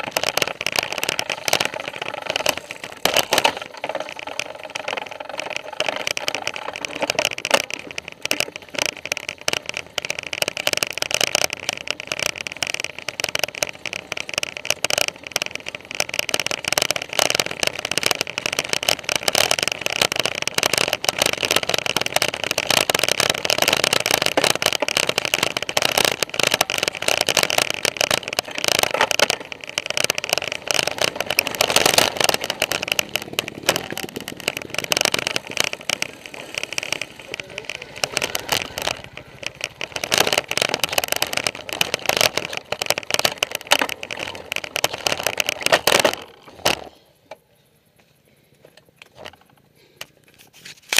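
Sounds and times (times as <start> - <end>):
mountain bike rattling over rocks: 0.0 - 47.7, 48.8 - 50.9.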